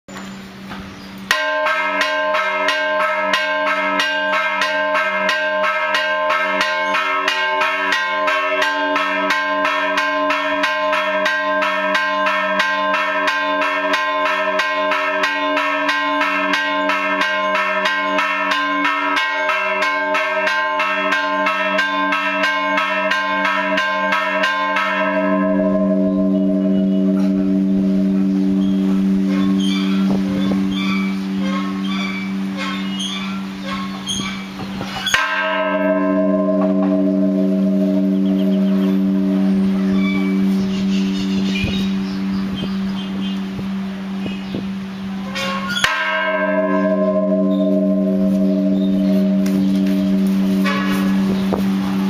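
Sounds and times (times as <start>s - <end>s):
church bell ringing: 1.3s - 52.0s.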